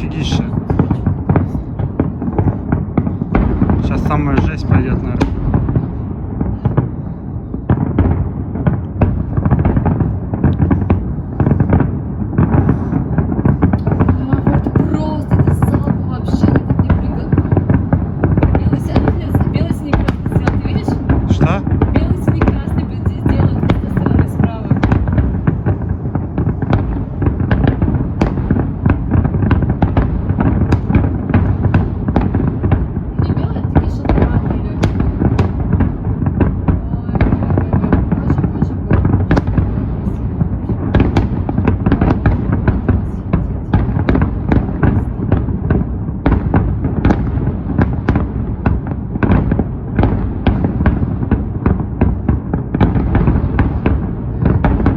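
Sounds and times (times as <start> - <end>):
fireworks banging and crackling: 0.0 - 54.9.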